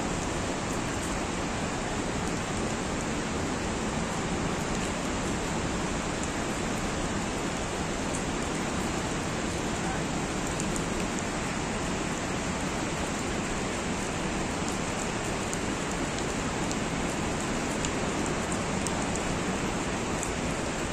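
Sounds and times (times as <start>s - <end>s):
steady rain hiss: 0.0s - 20.9s
faint raindrop ticks: 0.1s - 1.3s, 2.2s - 20.9s.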